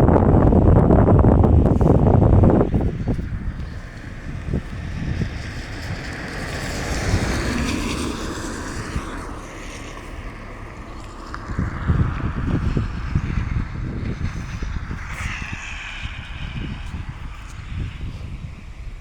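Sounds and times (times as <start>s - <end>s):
garbage truck engine rumble: 0.0s - 19.0s
wind on microphone: 0.0s - 19.0s.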